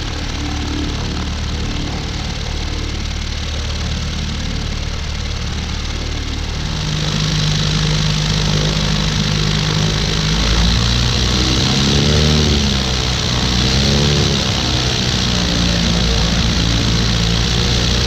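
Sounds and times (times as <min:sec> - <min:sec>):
propeller engine running: 0:00.0 - 0:18.0.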